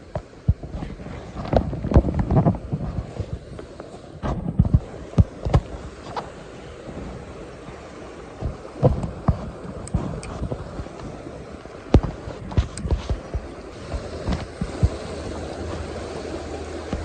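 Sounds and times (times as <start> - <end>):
stream water rushing: 0.0 - 17.0
footsteps in waders on stones: 0.1 - 16.0.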